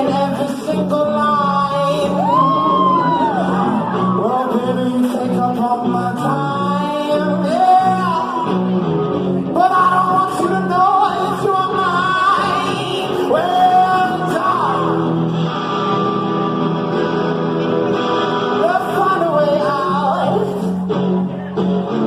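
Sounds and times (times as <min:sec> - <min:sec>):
lead singer singing: 0:00.0 - 0:08.8, 0:09.4 - 0:16.4, 0:18.3 - 0:20.9
live band playing: 0:00.0 - 0:22.0.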